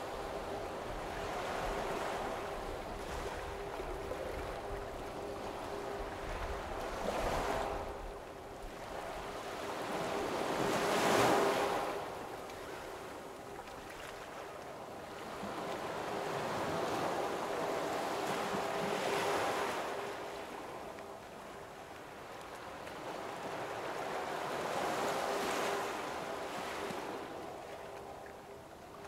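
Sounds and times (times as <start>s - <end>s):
faint steady hum: 0.0s - 29.0s
waves washing in: 0.0s - 29.0s.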